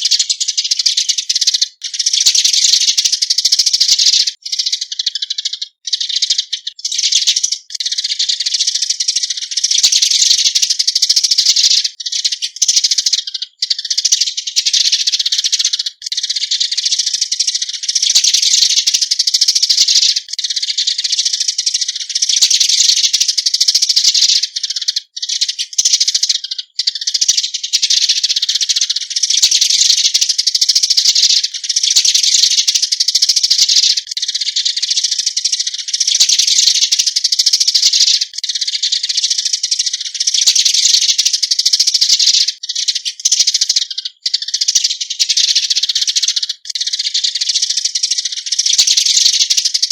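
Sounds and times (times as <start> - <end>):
sparrows chattering: 0.0 - 49.9.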